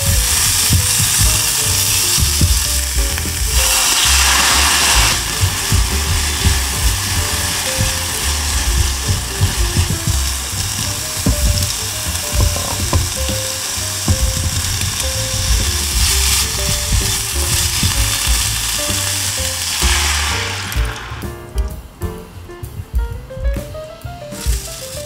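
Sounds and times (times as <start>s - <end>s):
water pouring into pan: 0.0s - 21.3s
food sizzling in frying pan: 0.0s - 21.5s.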